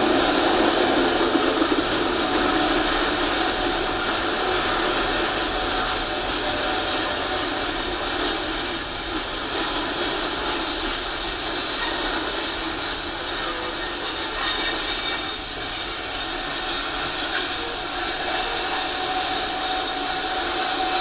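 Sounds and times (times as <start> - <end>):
freight train wheels on rail: 0.0 - 21.0.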